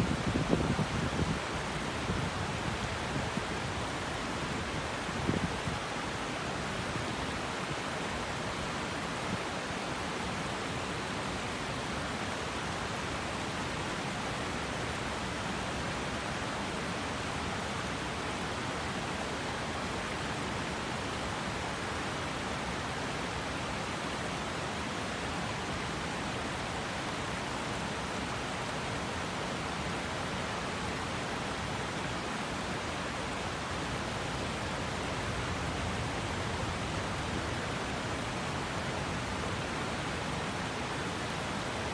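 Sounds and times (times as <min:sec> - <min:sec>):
river rushing over rocks: 0:00.0 - 0:41.9.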